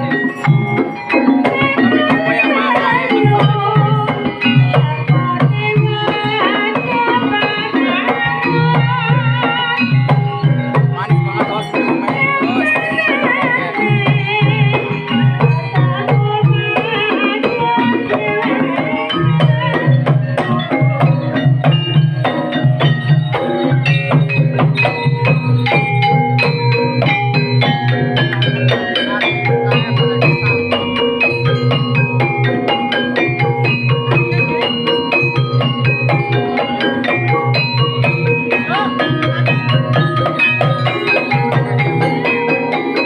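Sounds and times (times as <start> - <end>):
hand drums beating: 0.0 - 43.0
struck metal-keyed notes: 0.0 - 43.0
wavering melody line: 0.0 - 43.0.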